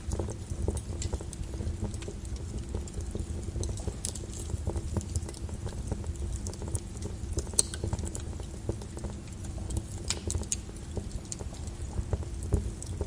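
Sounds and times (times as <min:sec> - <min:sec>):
lava crackling and popping: 0:00.0 - 0:13.0.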